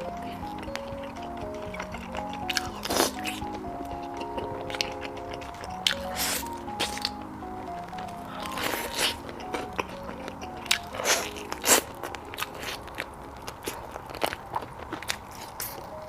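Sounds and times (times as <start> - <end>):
soft background music: 0.0 - 16.0
crunching chews: 0.2 - 7.2, 8.0 - 16.0.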